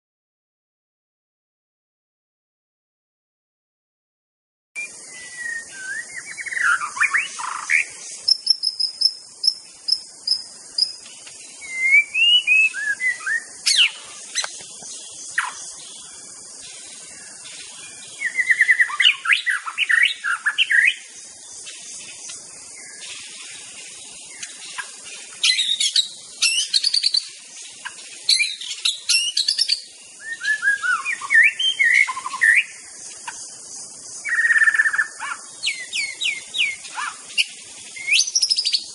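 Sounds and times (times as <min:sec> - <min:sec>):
songbird singing: 0:04.8 - 0:38.9
steady high hiss: 0:04.8 - 0:38.9.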